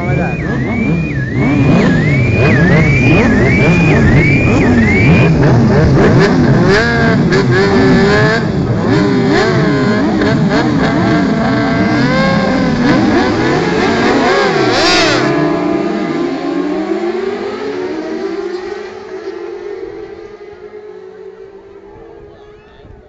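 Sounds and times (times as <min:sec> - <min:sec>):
steady rising engine tone: 0:00.0 - 0:22.4
racing motorcycle engines revving: 0:00.0 - 0:23.0.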